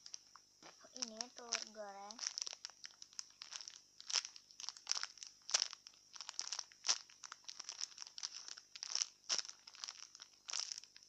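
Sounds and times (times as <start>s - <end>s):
squishy toy crinkling and crackling: 0.0s - 11.0s.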